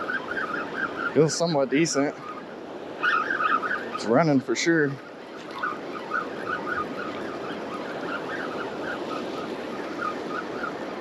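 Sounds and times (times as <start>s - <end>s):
surf washing: 0.0s - 11.0s.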